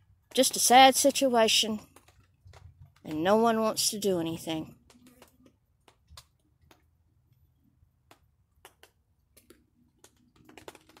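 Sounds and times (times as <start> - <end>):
faint clicks and ticks: 0.0 - 11.0.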